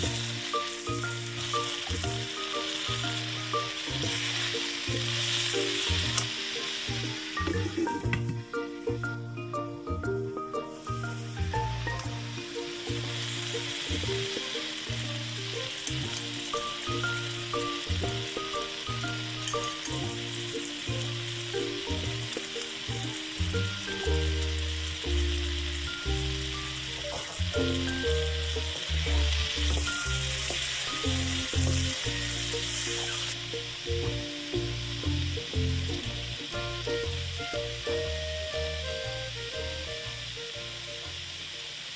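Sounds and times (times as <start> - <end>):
background music: 0.0 - 41.9
stir-fry sizzling in a pan: 0.0 - 41.9.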